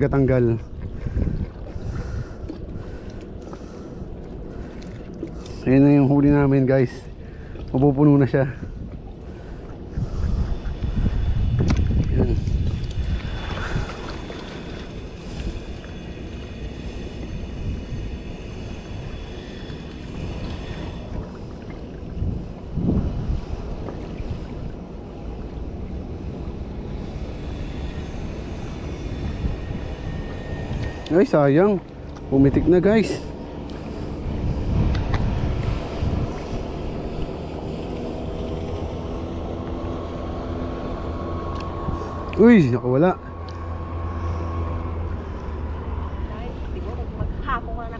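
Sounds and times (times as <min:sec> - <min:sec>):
low motor drone: 0:00.0 - 0:47.9
wind rumbling on microphone: 0:00.0 - 0:47.9.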